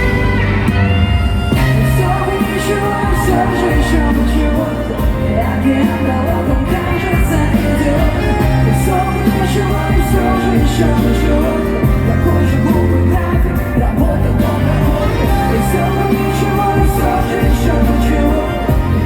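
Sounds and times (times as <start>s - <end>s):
bass line: 0.0s - 19.0s
live pop band music: 0.0s - 19.0s
person singing: 1.6s - 19.0s.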